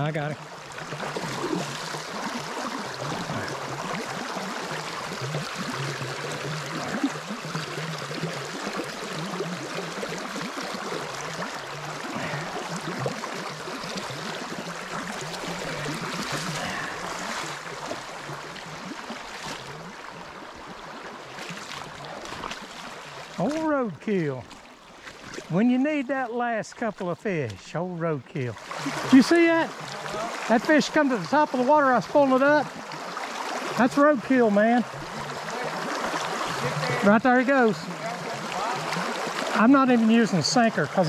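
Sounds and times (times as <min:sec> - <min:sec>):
water rushing over rocks: 0:00.0 - 0:41.0.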